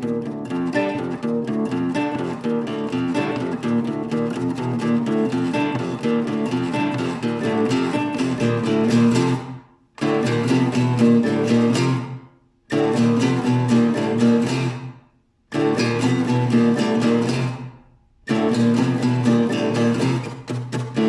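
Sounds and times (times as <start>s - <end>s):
acoustic guitar plucked runs: 0.0s - 21.0s.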